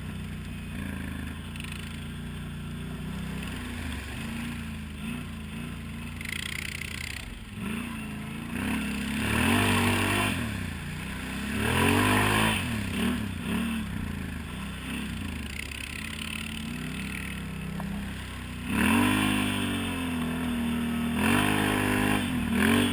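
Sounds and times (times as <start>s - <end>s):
atv engine revving: 0.0s - 22.9s.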